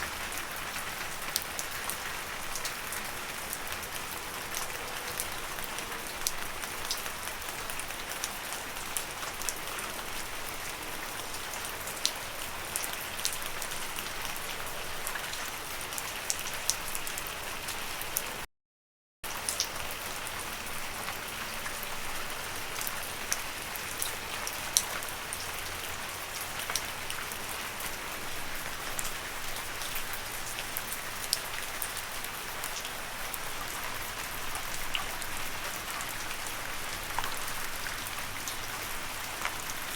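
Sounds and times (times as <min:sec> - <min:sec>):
rain falling on leaves: 0:00.0 - 0:18.4, 0:19.2 - 0:39.9.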